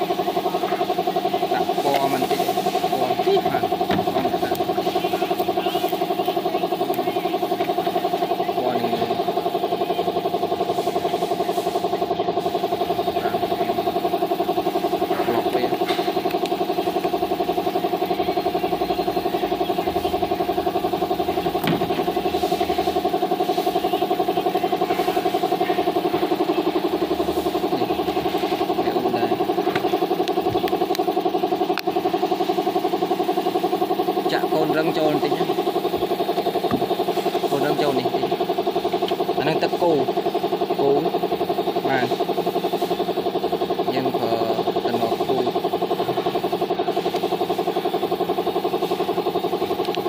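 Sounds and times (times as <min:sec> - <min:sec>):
small engine humming: 0:00.0 - 0:50.0.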